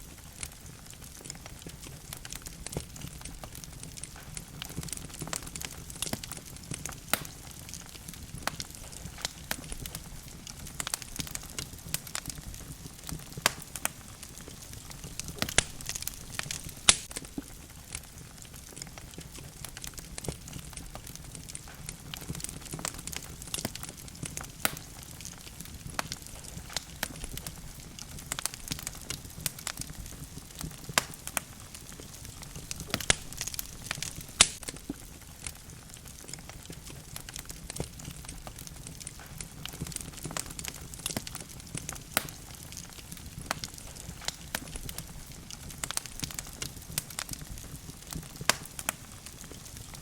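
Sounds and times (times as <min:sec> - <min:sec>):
fire rumbling: 0:00.0 - 0:50.0
wood crackling: 0:00.0 - 0:50.0.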